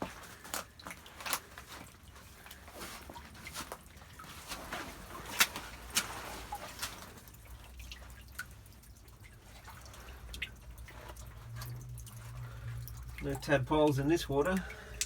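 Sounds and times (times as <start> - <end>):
creek trickling: 0.0 - 15.0
water dripping plinks: 0.0 - 15.0.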